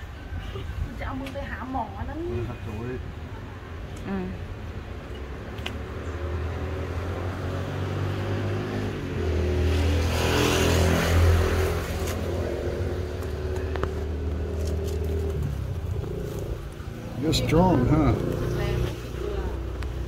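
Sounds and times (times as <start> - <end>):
vehicle engine humming: 3.2 - 20.0.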